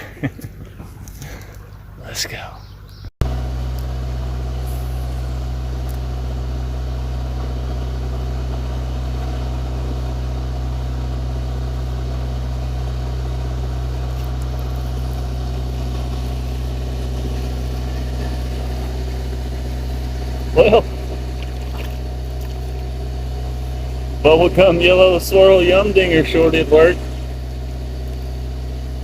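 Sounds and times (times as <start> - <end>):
engine droning steadily: 0.0 - 29.0.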